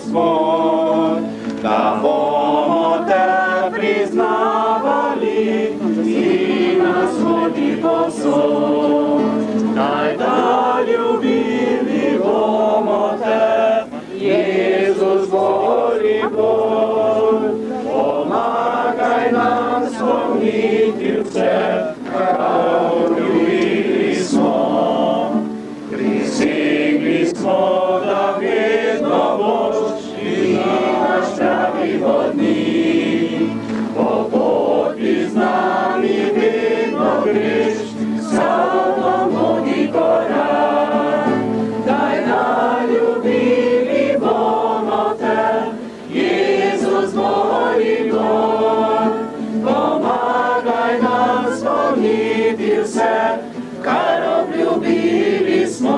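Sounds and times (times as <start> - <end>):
group singing a hymn: 0.0 - 55.9.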